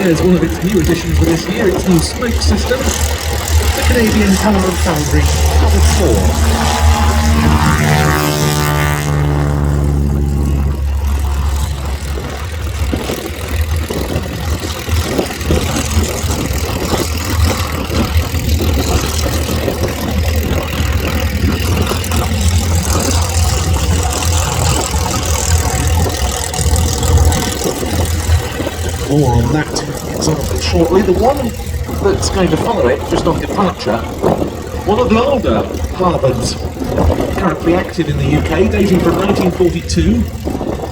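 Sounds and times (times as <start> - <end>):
low engine rumble: 0.0 - 40.9
radial aircraft engine droning: 0.0 - 40.9
wind buffeting microphone: 0.0 - 40.9.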